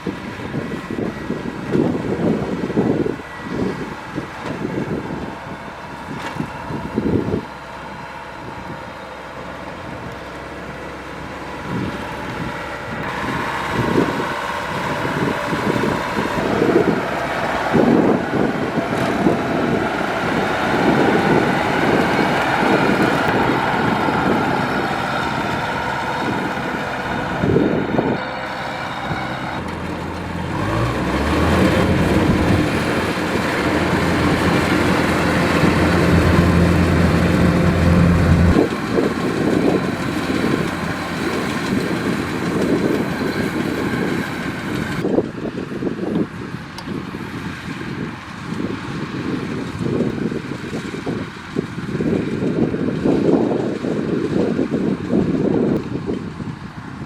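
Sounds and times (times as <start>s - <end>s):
combine harvester running: 0.0s - 57.0s
low engine hum: 0.0s - 57.0s.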